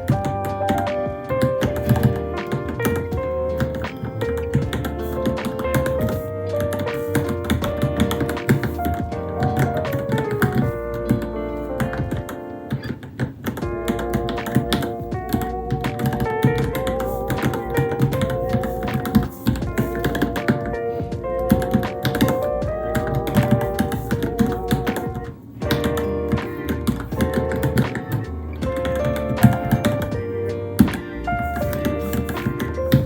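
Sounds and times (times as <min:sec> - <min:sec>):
mechanical keyboard typing: 0:00.0 - 0:20.8, 0:21.4 - 0:33.0
background music: 0:00.0 - 0:33.0.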